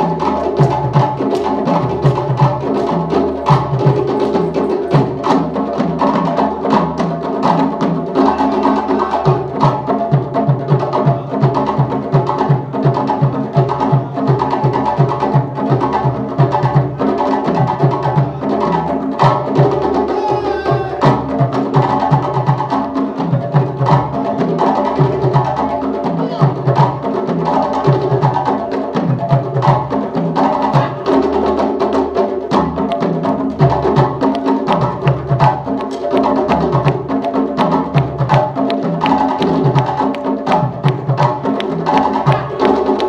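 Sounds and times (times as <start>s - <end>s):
hand-drum ensemble playing: 0.0s - 43.0s.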